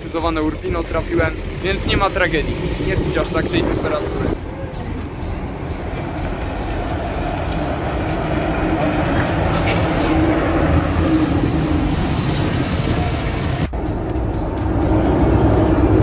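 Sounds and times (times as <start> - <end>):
bus engine and tyre noise: 0.0 - 16.0.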